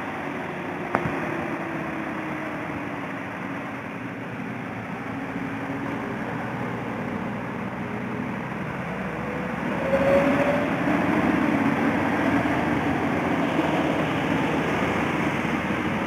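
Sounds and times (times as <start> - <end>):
heavy trucks engines under load: 0.0 - 16.0.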